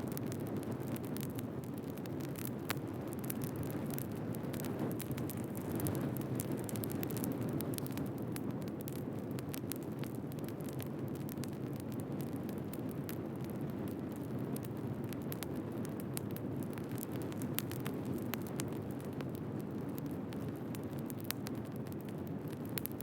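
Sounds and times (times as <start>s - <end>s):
low rush of flame: 0.0s - 23.0s
wood fire crackling and popping: 0.0s - 23.0s.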